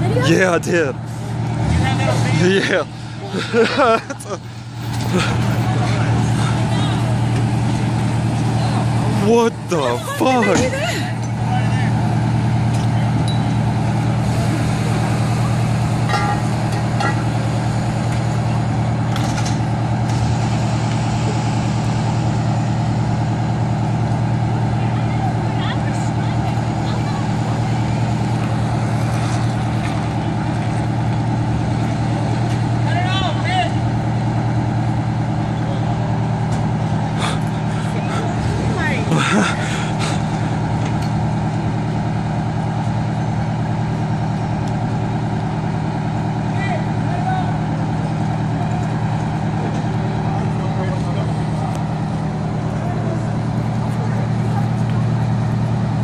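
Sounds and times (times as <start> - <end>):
truck engine humming: 0.0 - 56.0.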